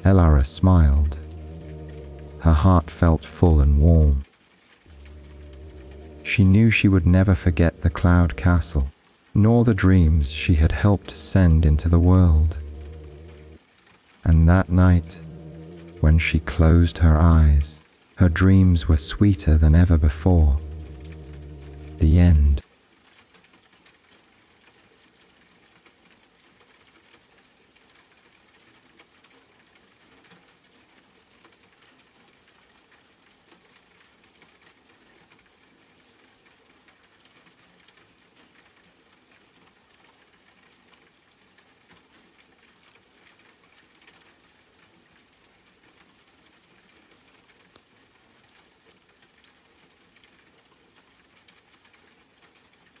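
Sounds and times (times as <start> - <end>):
faint rain pattering: 0.0 - 53.0.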